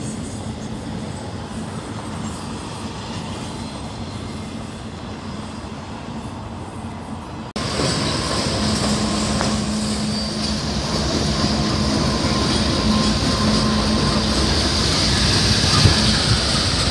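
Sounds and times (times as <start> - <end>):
freight train rumbling past: 0.0 - 16.9
locomotive engine hum: 0.0 - 16.9.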